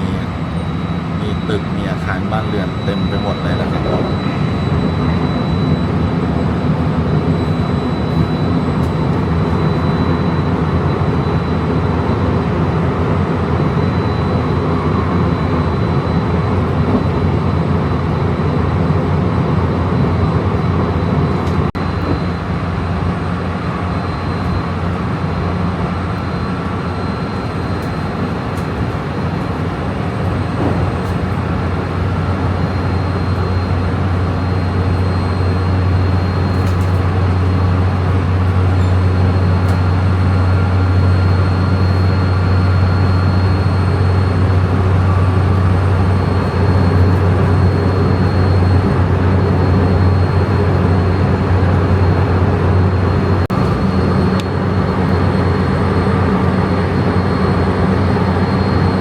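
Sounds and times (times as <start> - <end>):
faint high whine: 0.0 - 17.7, 21.8 - 59.0
train running noise: 0.0 - 17.7, 20.7 - 59.0.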